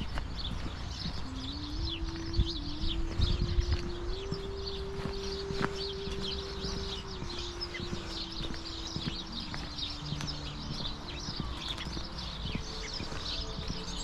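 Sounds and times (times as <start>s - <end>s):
footsteps on a path: 0.0s - 14.0s.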